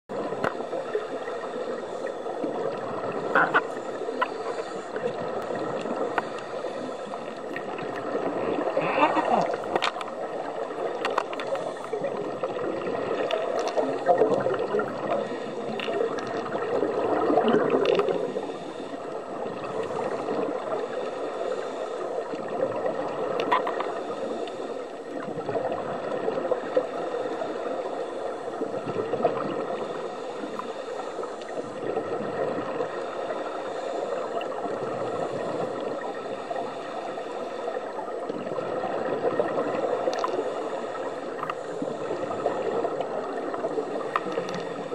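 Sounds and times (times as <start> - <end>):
exhaled bubbles gurgling underwater: 0.1 - 44.9
rush of water: 0.1 - 44.9.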